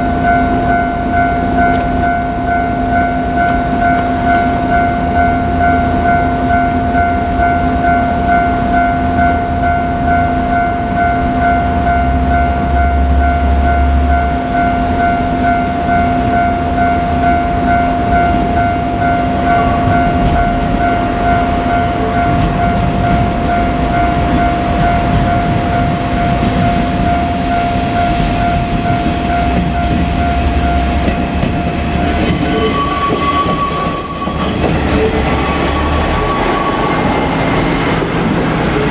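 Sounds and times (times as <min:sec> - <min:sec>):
diesel railcar engine rumble: 0:00.0 - 0:38.9
higher warning tone: 0:00.0 - 0:38.9
level crossing warning tone: 0:00.0 - 0:38.9.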